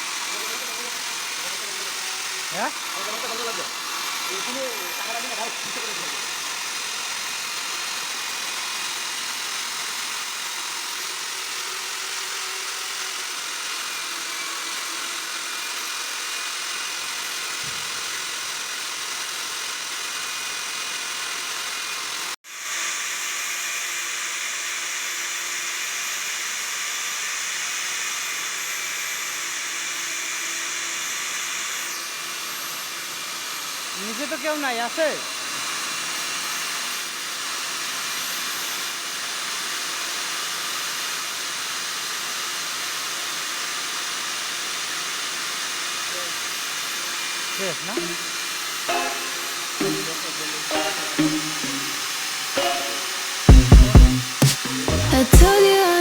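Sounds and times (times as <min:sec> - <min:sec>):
core drill whining into concrete: 0:00.0 - 0:56.0.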